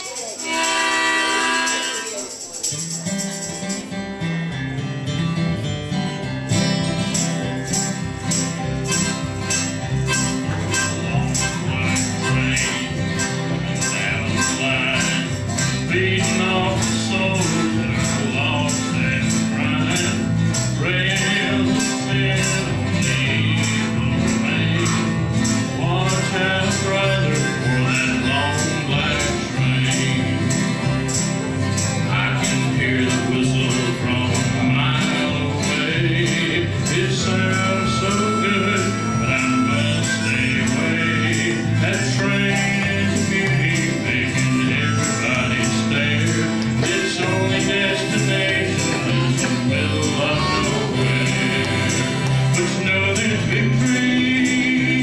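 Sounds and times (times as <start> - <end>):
tambourine beat: 0.0 - 4.8, 6.5 - 55.0
strummed acoustic guitars: 0.0 - 55.0
harmonica: 0.2 - 3.7, 6.5 - 55.0.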